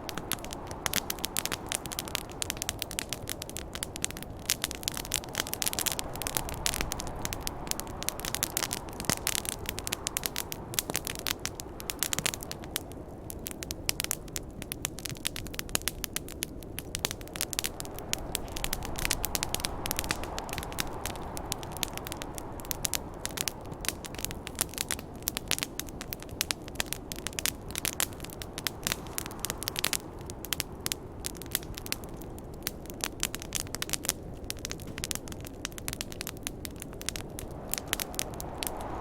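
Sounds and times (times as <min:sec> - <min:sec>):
campfire crackling and popping: 0:00.0 - 0:39.0
snowstorm wind hissing: 0:00.0 - 0:39.0.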